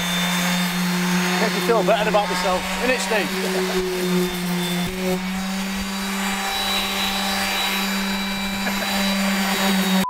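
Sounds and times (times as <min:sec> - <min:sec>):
orbital sander humming: 0:00.0 - 0:10.0.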